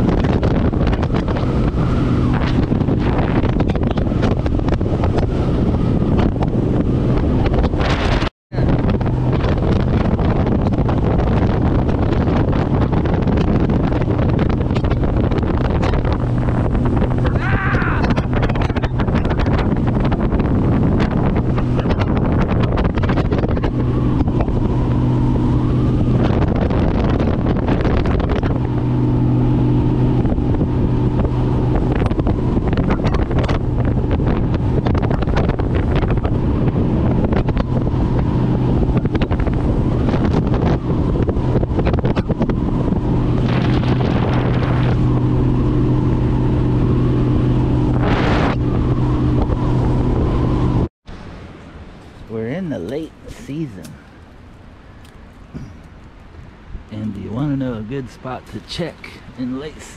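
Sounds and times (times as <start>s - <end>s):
outboard engine running: 0.0s - 59.9s
wind buffeting microphone: 0.0s - 59.9s.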